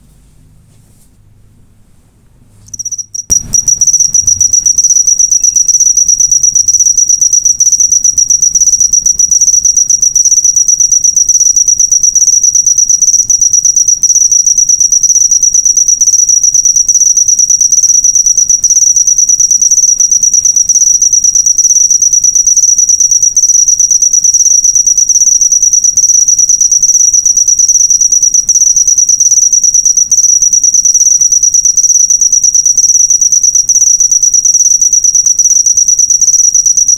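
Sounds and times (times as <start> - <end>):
cricket chirping: 2.7 - 36.9.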